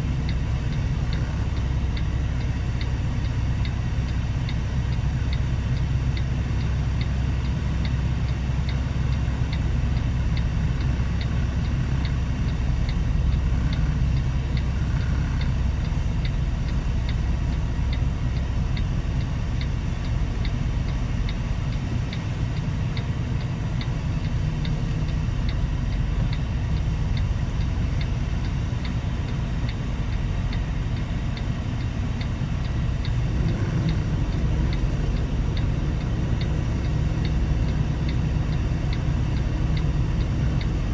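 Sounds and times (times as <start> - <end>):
regular light ticking: 0.0 - 40.9
truck engine low rumble: 0.0 - 40.9.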